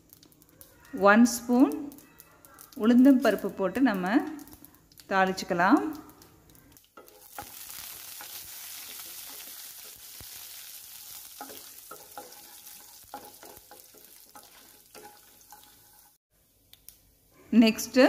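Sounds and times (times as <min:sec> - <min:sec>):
lentils sizzling in hot oil: 0:00.0 - 0:16.3.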